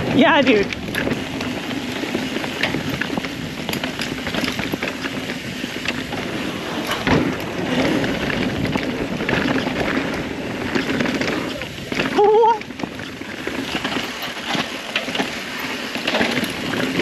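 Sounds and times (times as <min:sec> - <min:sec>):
bike rattling and clicking: 0:00.0 - 0:17.0
bike tyres on loose dirt: 0:00.0 - 0:17.0.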